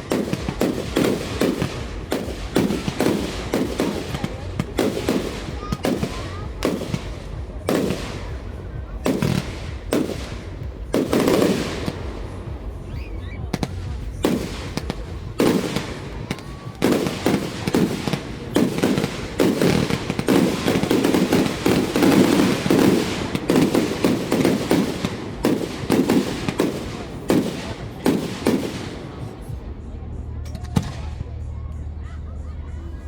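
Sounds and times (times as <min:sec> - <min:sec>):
fireworks bangs: 0:00.0 - 0:29.6.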